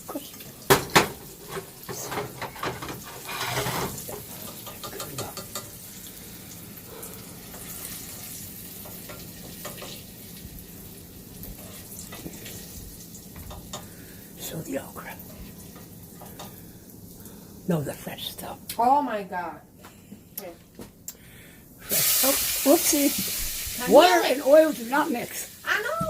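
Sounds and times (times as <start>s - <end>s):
food sizzling in hot oil: 0.0s - 17.7s, 21.8s - 26.0s.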